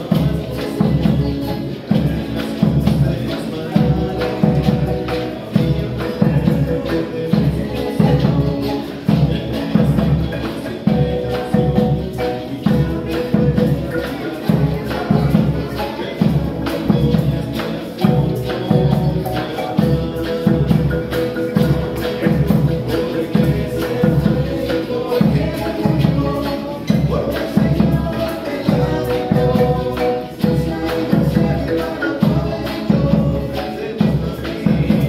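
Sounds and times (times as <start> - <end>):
acoustic guitar: 0.0 - 35.0
marimba melody: 0.0 - 35.0
voices singing: 0.0 - 35.0.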